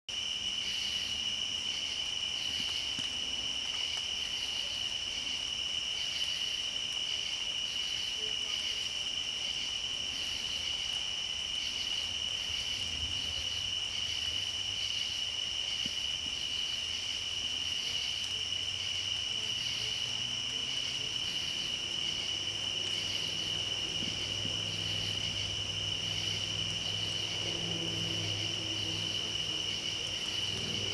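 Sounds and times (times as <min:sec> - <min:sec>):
crickets trilling: 0:00.1 - 0:30.9
pulsing insect call: 0:00.2 - 0:30.9.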